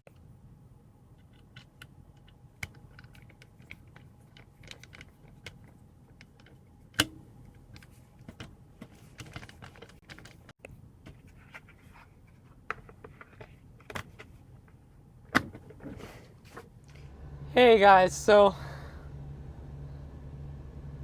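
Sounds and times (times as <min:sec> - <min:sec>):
low steady hum: 0:00.1 - 0:21.0.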